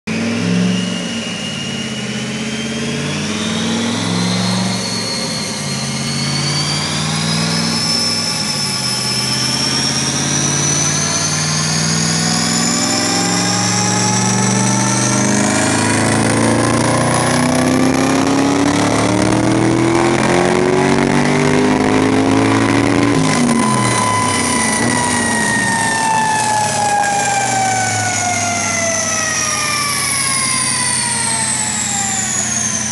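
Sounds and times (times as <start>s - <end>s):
high whine climbing in pitch: 0.0s - 32.9s
car engine revving under load: 0.1s - 32.9s.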